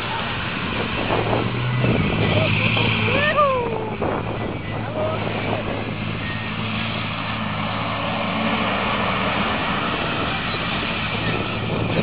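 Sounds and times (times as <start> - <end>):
broad rushing noise: 0.0 - 12.0
truck diesel engine running: 0.0 - 12.0.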